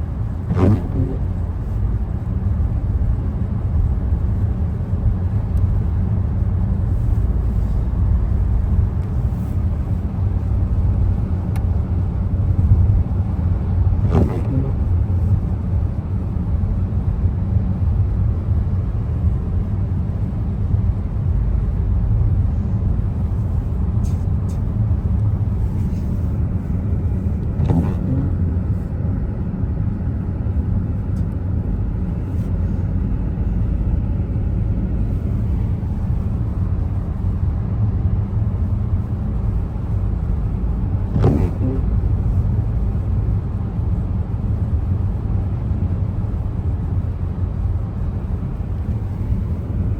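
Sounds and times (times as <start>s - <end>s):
car driving low rumble: 0.0s - 49.9s.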